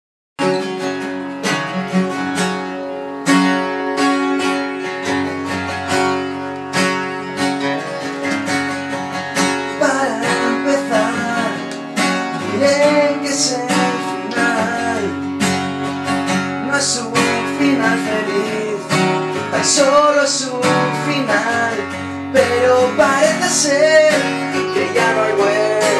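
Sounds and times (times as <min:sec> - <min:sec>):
acoustic guitars strumming: 0:00.4 - 0:25.9.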